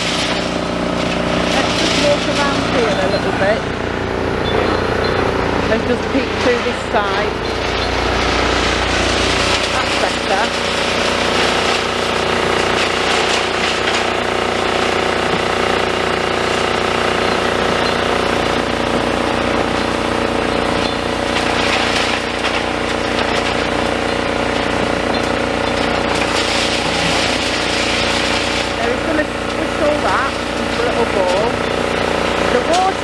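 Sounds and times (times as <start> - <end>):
crunching of concrete: 0.0 - 33.0
excavator engine and hydraulics: 0.0 - 33.0.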